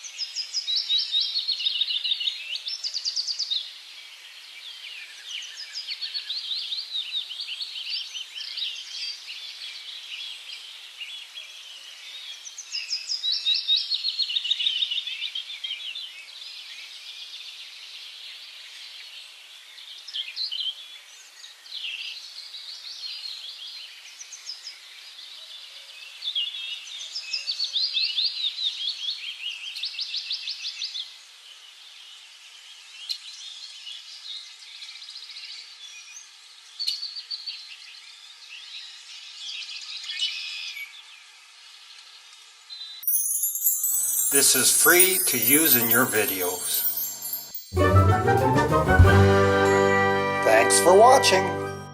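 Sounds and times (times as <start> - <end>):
wild birds singing and chirping: 0.0 - 47.6.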